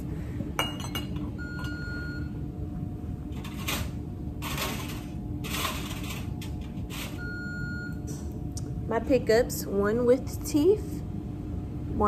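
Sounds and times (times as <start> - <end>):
steady room hum: 0.0 - 12.0.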